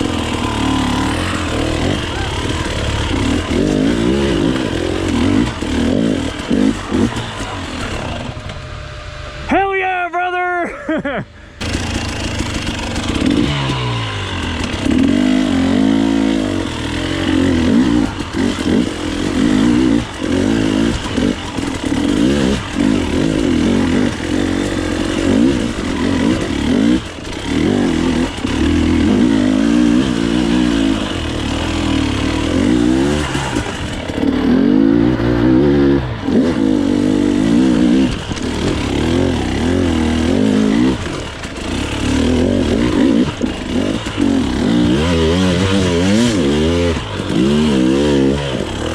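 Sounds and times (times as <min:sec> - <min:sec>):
two-stroke dirt bike engine revving: 0:00.0 - 0:09.5, 0:11.6 - 0:48.9.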